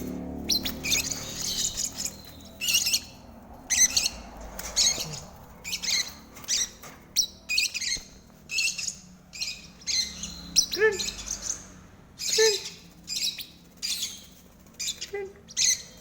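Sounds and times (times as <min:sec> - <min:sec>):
lovebirds chirping: 0:00.0 - 0:16.0.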